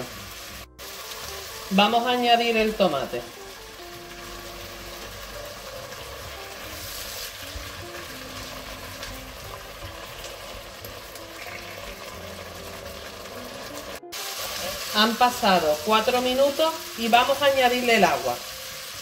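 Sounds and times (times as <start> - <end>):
soft background music: 0.0 - 19.0
vegetables sizzling in oil: 0.0 - 19.0.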